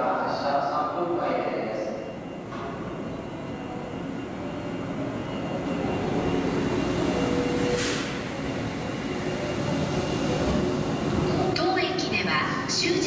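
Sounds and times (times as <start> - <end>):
electric train rumble and motor: 2.1 - 13.0.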